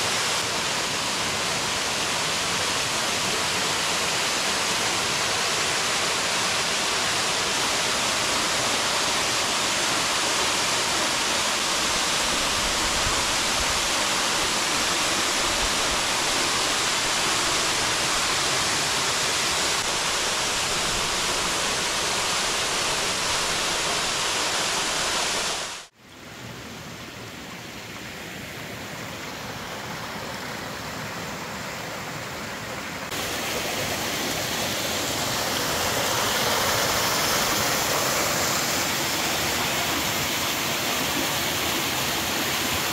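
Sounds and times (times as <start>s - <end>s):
waterfall rushing: 0.0s - 25.9s, 28.7s - 42.9s.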